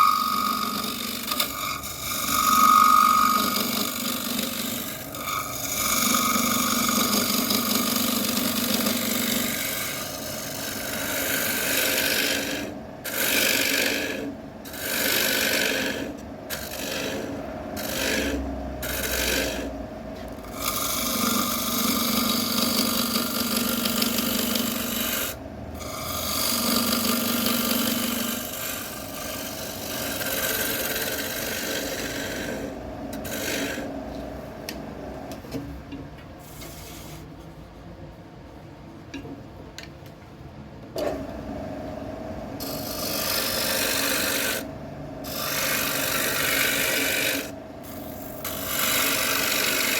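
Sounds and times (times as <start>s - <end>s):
tool rasping on spinning wood lathe: 0.0s - 34.4s, 42.6s - 49.9s.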